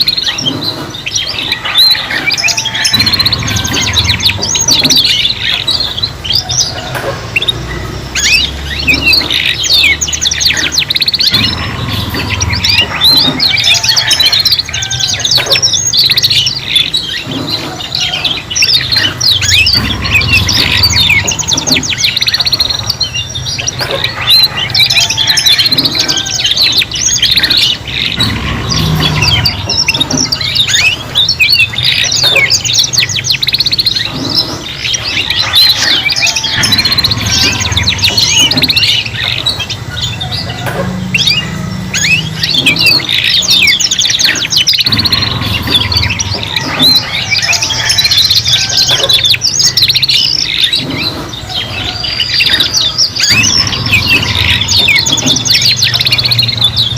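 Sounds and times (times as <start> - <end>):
canaries trilling and chirping: 0.0 - 56.9.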